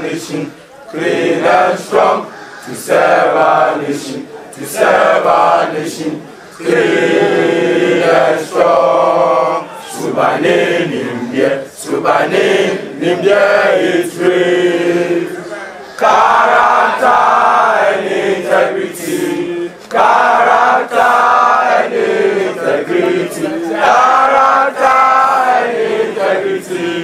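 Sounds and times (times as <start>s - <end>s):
crowd chanting: 0.0s - 27.0s.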